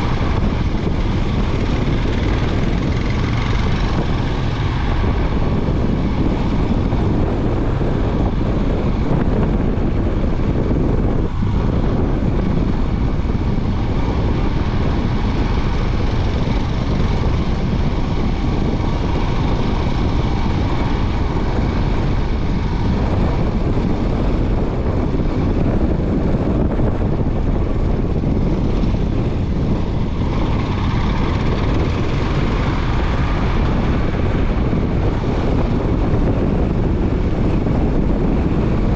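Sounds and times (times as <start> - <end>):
single-cylinder motorcycle engine running: 0.0 - 38.9.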